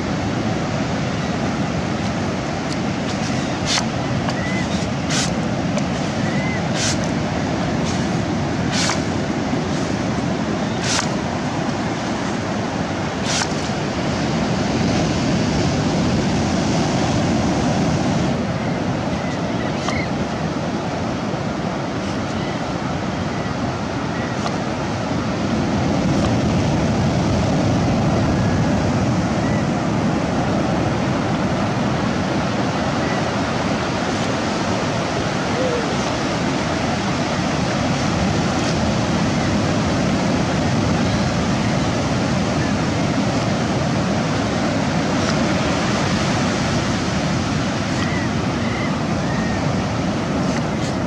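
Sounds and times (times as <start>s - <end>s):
ocean surf on beach: 0.0s - 51.0s.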